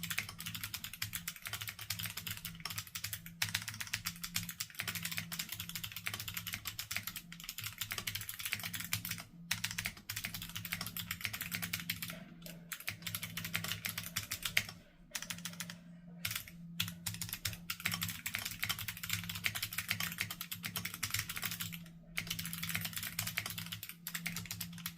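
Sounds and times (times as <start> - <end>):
fast typing on mechanical keyboard: 0.0 - 24.9.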